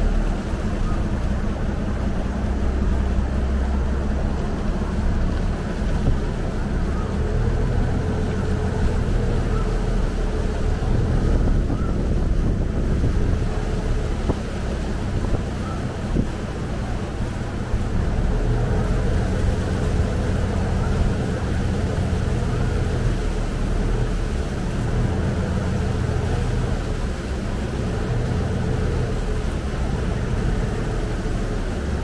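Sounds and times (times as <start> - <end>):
boat engine running: 0.0 - 32.0
water rushing along hull: 0.0 - 32.0
wind buffeting microphone: 0.0 - 32.0.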